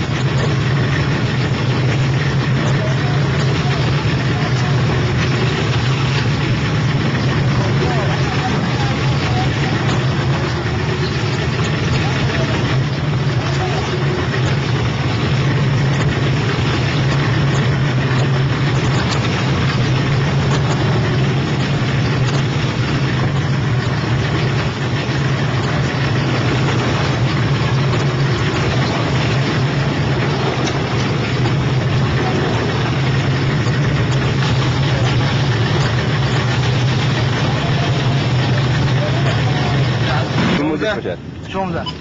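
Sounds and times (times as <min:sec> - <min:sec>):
dense rushing noise: 0:00.0 - 0:41.8
boat engine droning: 0:00.0 - 0:42.0.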